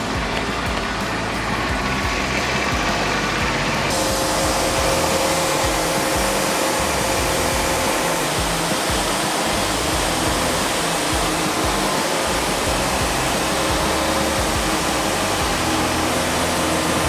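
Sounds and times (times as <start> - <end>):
background music: 0.0 - 17.0
band sawmill cutting log: 0.0 - 17.0.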